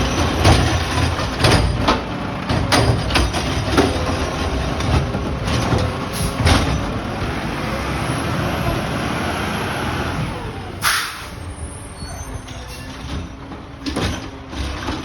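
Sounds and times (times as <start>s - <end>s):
garbage truck running: 0.0s - 15.0s.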